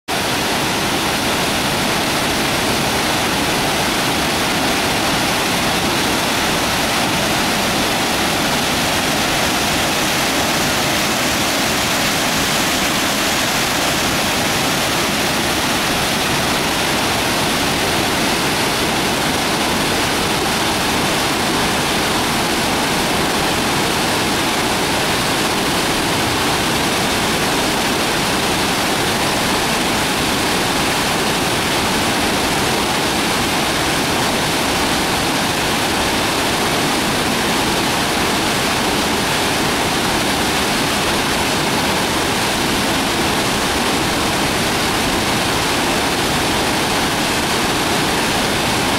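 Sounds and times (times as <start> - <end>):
waterfall rushing: 0.1 - 48.9.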